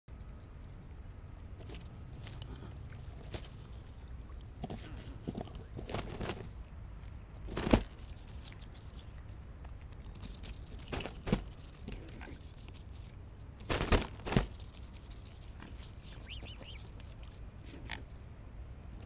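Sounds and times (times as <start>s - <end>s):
swans feeding with bills: 0.1s - 19.0s.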